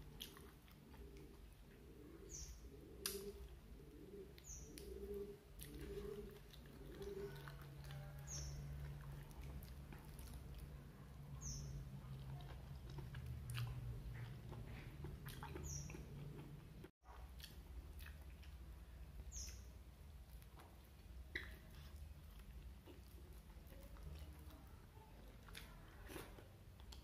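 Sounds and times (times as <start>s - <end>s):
person chewing food: 0.0s - 2.0s, 3.0s - 27.0s.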